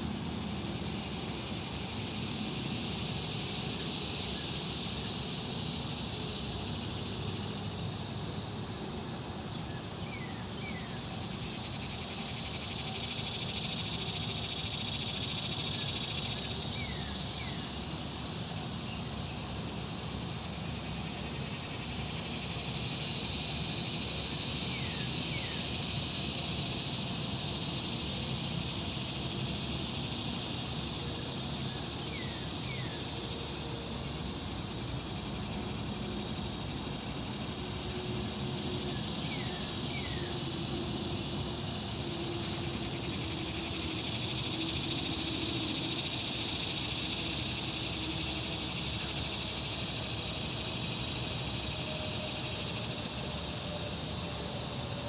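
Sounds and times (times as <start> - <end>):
insect chorus: 0.0 - 55.0.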